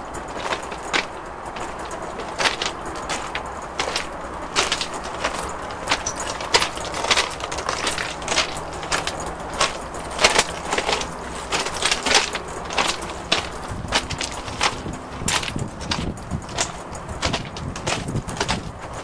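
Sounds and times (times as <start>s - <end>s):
footsteps crunching on loose stones: 0.0s - 19.0s.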